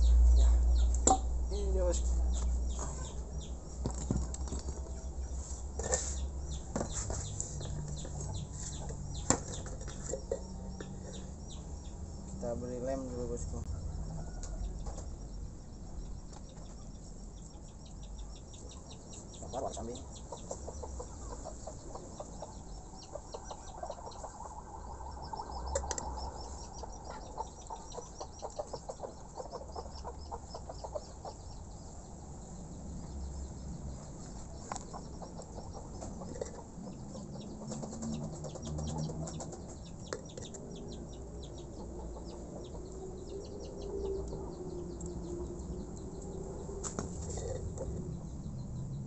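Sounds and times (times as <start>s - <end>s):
chickens clucking: 0.0s - 48.3s
birds chirping: 0.0s - 49.0s.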